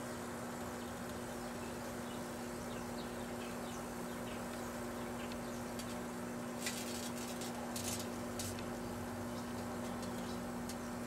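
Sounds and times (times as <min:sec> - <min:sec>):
short electrical crackles: 0:00.0 - 0:10.9
microwave oven humming: 0:00.0 - 0:11.0.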